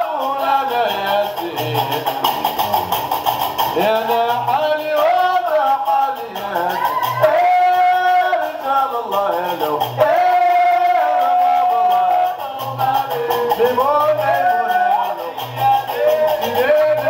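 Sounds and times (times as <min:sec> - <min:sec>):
low drum beats and percussion: 0:00.0 - 0:17.0
voices chanting held notes: 0:00.0 - 0:17.0.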